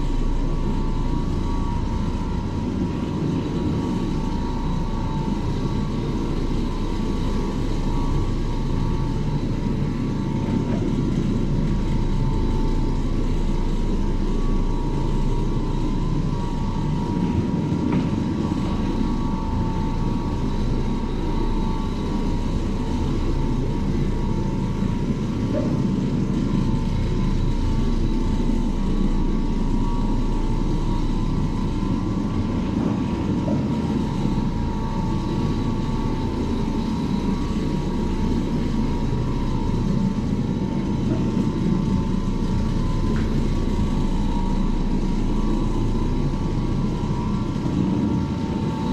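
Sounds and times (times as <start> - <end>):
floor machine rumbling and whining: 0.0 - 48.9.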